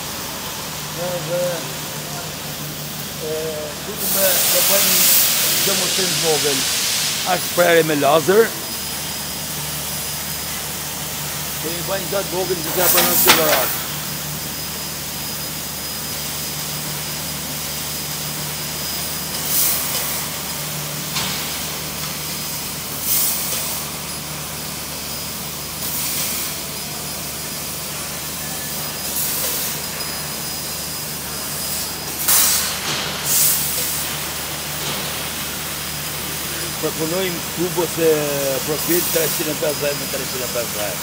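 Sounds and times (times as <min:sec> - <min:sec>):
laser cutter hissing: 0:00.0 - 0:41.0.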